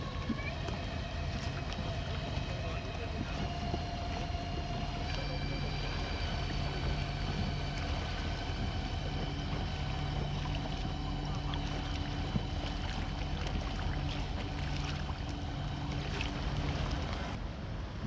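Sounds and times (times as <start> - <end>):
outboard motor hum: 0.0 - 18.0
rushing water: 0.0 - 18.0.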